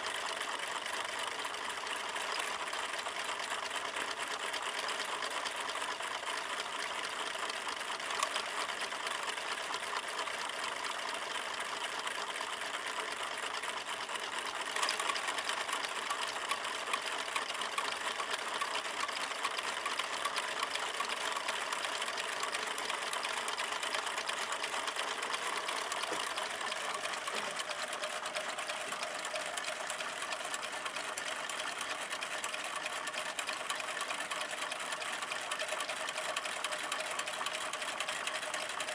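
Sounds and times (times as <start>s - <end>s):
small engine mechanical clatter: 0.0s - 38.9s.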